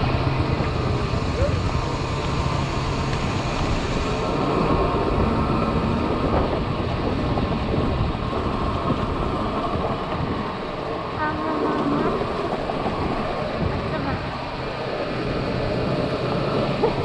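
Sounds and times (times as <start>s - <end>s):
motorcycle wind and road rumble: 0.0s - 17.0s.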